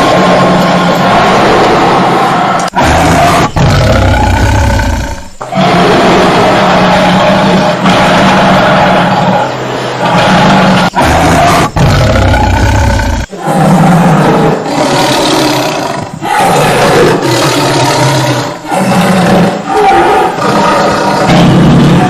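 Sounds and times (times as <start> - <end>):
tiger roaring and growling: 0.0 - 22.0.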